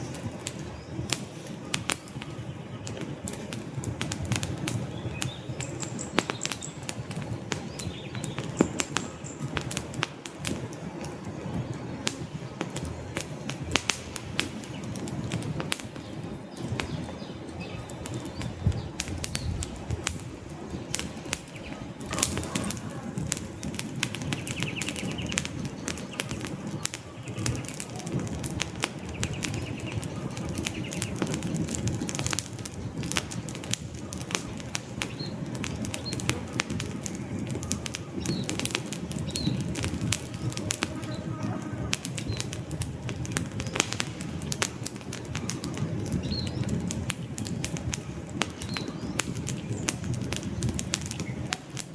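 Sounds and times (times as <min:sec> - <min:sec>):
logs crackling and popping: 0:00.0 - 0:51.9
low rush of flames: 0:00.0 - 0:51.9.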